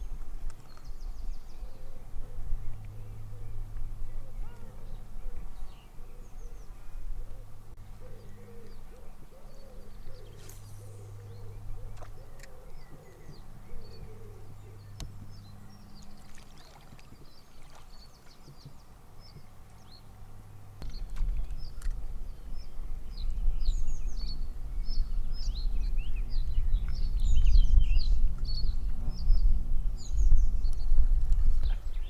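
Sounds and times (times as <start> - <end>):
small birds chirping: 0.0 - 20.2, 20.8 - 32.0
river water: 0.0 - 27.4.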